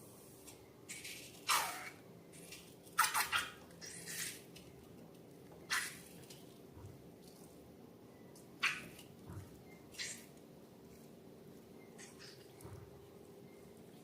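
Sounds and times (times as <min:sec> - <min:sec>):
wet crackly slime squelches: 0:00.9 - 0:14.0.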